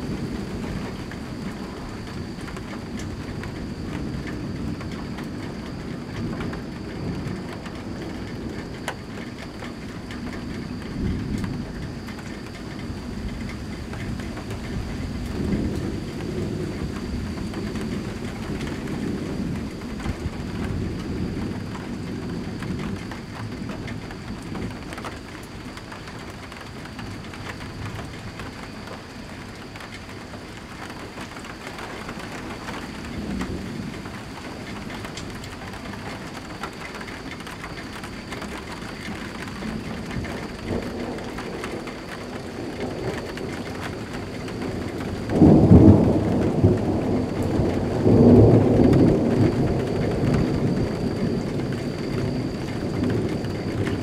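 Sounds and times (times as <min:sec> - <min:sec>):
raindrops ticking on surfaces: 0:00.0 - 0:54.0
rolling thunder: 0:00.0 - 0:54.0
steady rain falling: 0:00.0 - 0:54.0.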